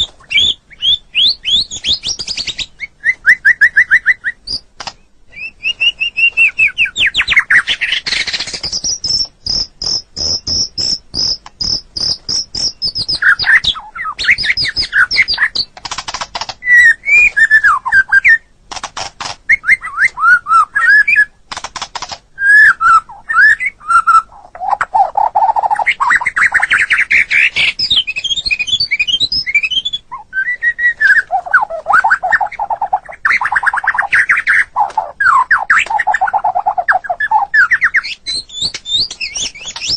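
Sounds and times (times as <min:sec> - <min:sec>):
songbird singing varied song: 0:00.0 - 0:18.6, 0:19.5 - 0:21.4, 0:22.3 - 0:39.9.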